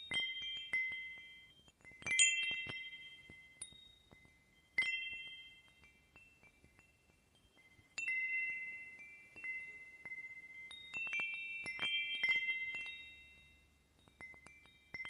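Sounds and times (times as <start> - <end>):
wind chime tinkling: 0.0 - 15.0.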